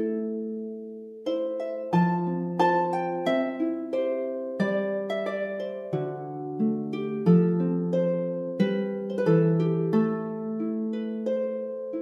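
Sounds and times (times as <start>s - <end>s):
slow plucked string melody: 0.0s - 12.0s.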